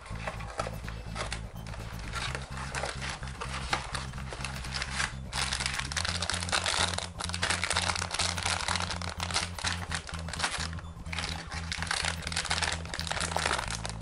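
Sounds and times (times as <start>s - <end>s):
background music: 0.0s - 14.0s
plastic bags crinkling: 0.2s - 14.0s.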